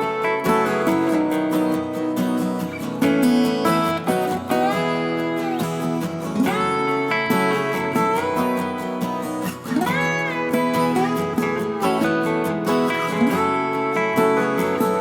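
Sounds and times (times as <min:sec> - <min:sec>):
acoustic guitar plucked and strummed: 0:00.0 - 0:15.0.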